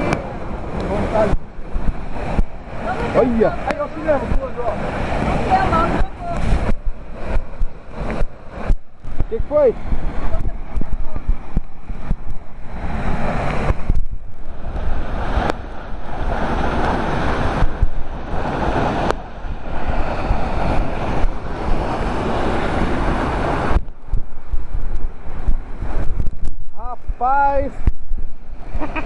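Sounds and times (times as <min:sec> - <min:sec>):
waterfall rushing: 0:00.0 - 0:29.0
wind on microphone: 0:00.0 - 0:29.0.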